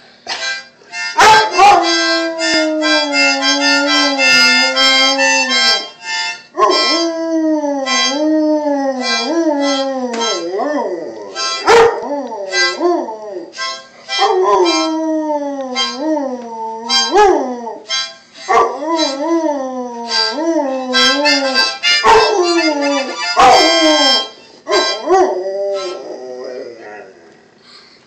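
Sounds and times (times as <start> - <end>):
harmonica chords: 0.0 - 26.6
dog howling: 1.2 - 5.8, 6.6 - 13.5, 14.2 - 17.8, 18.6 - 27.2.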